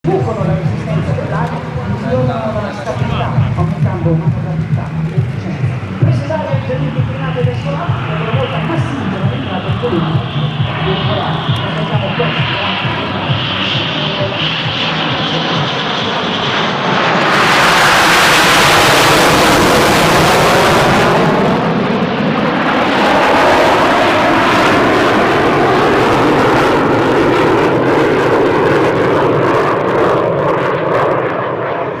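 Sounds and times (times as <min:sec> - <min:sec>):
jet aircraft passing: 0:00.0 - 0:32.0.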